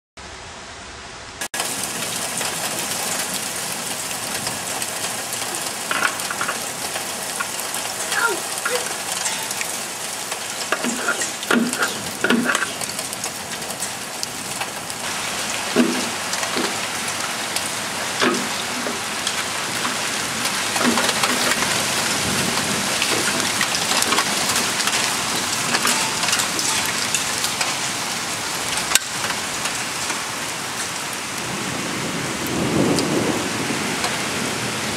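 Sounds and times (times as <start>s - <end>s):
hail and rain pelting: 1.5s - 34.9s.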